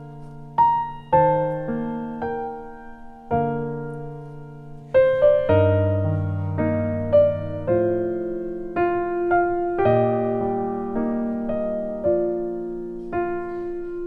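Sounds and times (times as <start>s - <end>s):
gentle keyboard melody: 0.0s - 14.0s.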